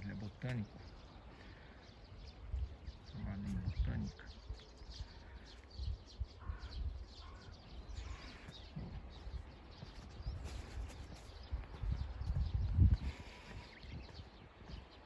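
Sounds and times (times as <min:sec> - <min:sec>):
low curving bird calls: 0:00.0 - 0:15.0
small birds chirping: 0:00.0 - 0:15.0.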